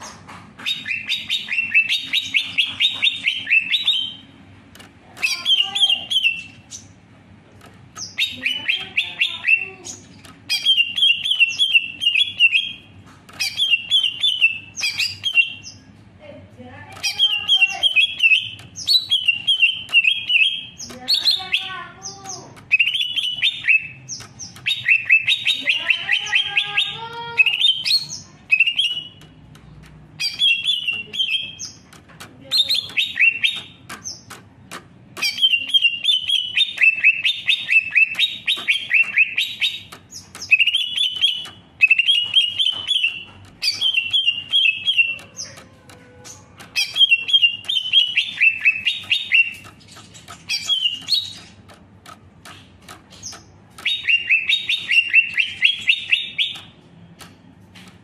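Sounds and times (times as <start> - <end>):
bird singing chattering phrases: 0.0 - 58.0.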